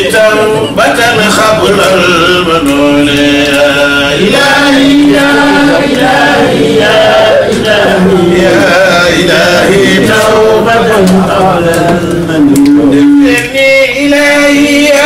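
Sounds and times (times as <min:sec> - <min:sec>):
man chanting into microphone: 0:00.0 - 0:06.1, 0:06.7 - 0:15.0
men chanting together: 0:00.0 - 0:15.0.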